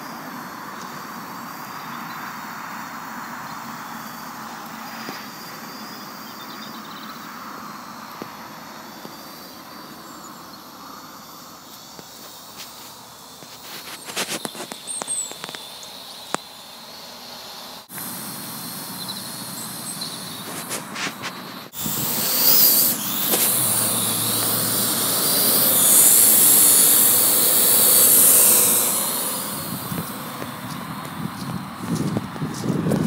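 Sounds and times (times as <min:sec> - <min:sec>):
drone propellers whining: 0:00.0 - 0:33.0.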